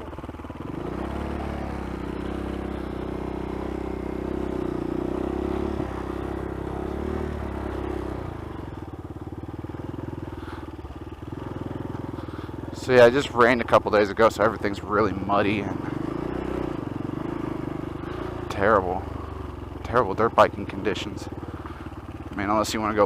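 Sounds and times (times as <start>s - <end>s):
dirt bike engine: 0.0s - 23.0s.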